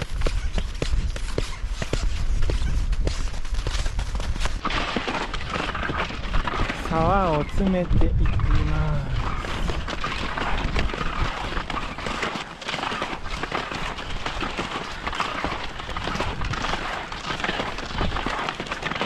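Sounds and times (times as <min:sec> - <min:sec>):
skis crunching on snow: 0:00.0 - 0:19.0.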